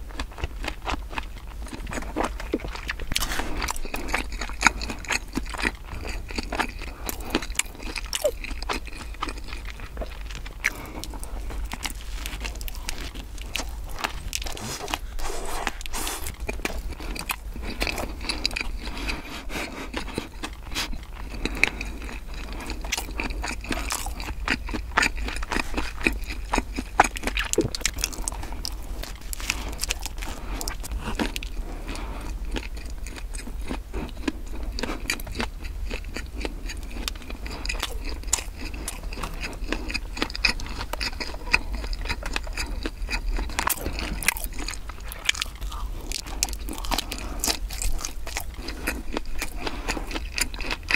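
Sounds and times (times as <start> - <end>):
person chewing crunchy bread: 0.0 - 50.9.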